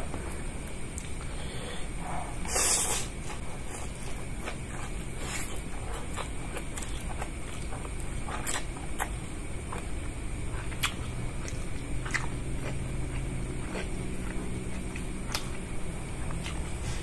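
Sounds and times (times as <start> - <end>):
steady low hum: 0.0 - 17.0
man chewing with wet smacks: 3.2 - 17.0.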